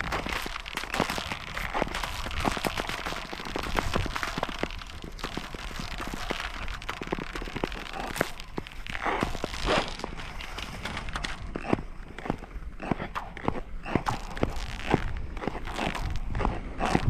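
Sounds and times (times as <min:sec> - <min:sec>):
ice crackling and ticking: 0:00.0 - 0:17.0
skates scraping and gliding on ice: 0:00.0 - 0:17.0.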